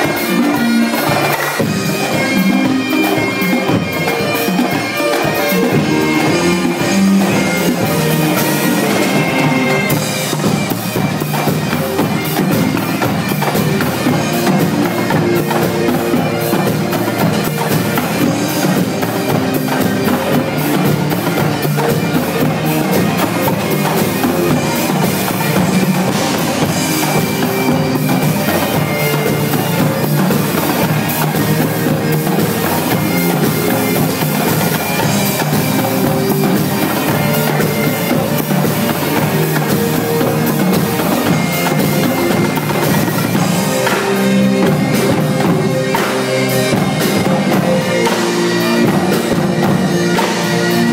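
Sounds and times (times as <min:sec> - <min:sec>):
bagpipes playing held notes: 0:00.0 - 0:50.9
marching drums: 0:00.0 - 0:50.9.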